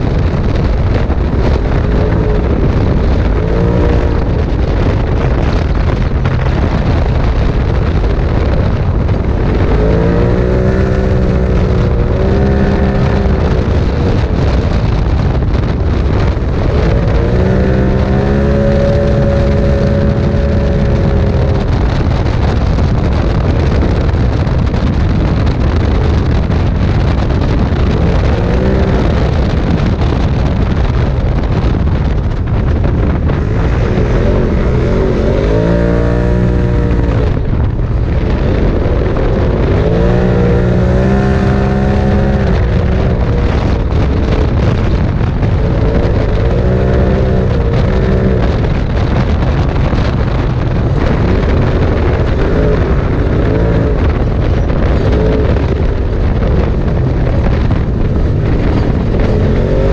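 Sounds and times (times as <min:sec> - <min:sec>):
vehicle engine and drivetrain: 0:00.0 - 0:59.9
wind rush: 0:00.0 - 0:59.9.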